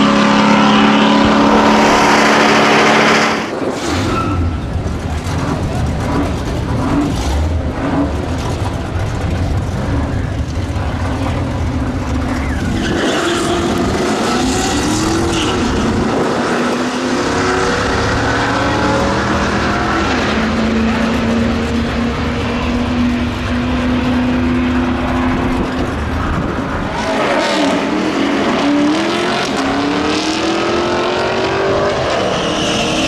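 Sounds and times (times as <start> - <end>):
drag racing car engines revving: 0.0 - 33.0.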